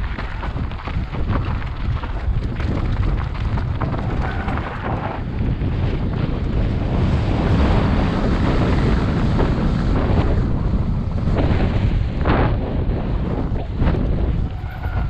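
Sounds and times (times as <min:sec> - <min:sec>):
bike rattling over bumps: 0:00.0 - 0:15.0
tyres on loose gravel: 0:00.0 - 0:15.0
wind rushing over microphone: 0:00.0 - 0:15.0.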